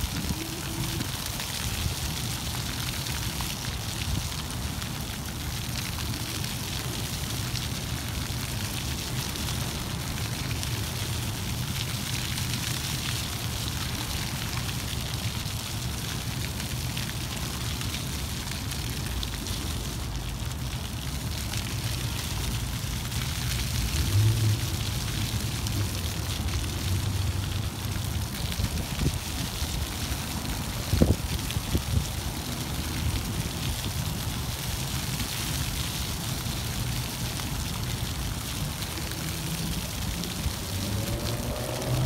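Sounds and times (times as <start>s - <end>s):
fountain water splashing on paving: 0.0s - 42.0s.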